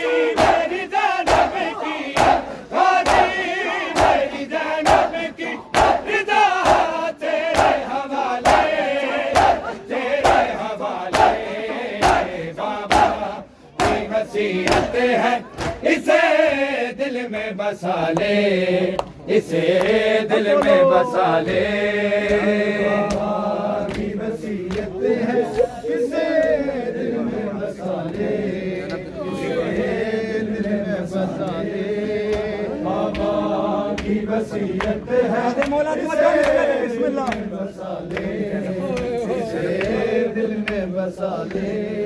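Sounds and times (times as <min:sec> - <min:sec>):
crowd chanting: 0:00.0 - 0:42.0.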